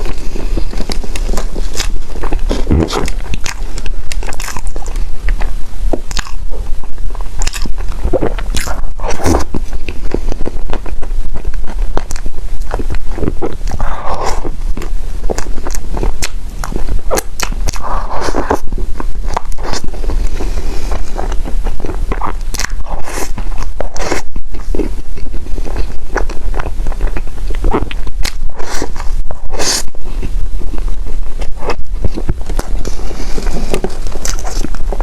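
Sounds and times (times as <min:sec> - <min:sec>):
chewing and crunching food: 0:00.0 - 0:35.0
steady low hum: 0:00.0 - 0:35.0.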